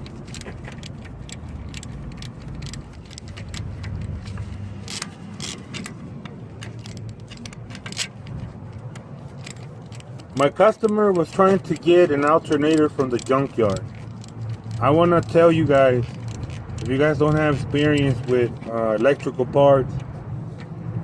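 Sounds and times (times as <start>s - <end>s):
metal tools clinking: 0.0s - 19.4s.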